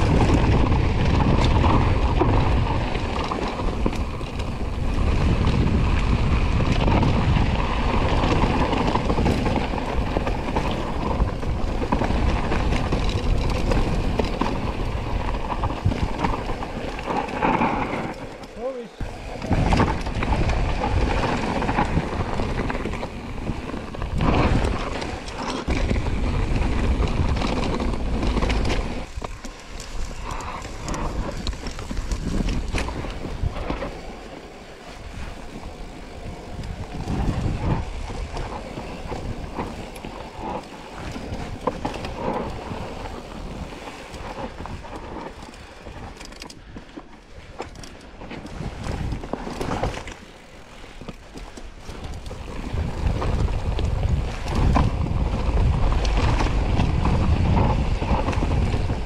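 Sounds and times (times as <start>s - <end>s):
bike knocking and rattling: 0.0s - 59.0s
bike tyres rolling over gravel: 0.0s - 59.0s
wind noise on microphone: 0.0s - 59.0s.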